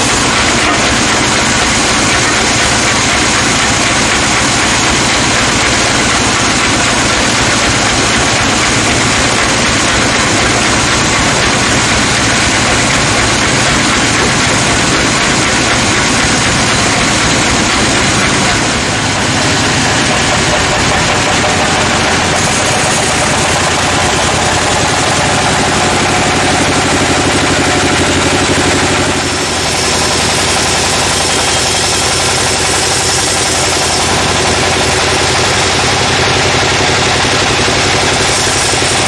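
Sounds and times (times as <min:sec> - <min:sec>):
sawmill machinery drone: 0:00.0 - 0:39.0.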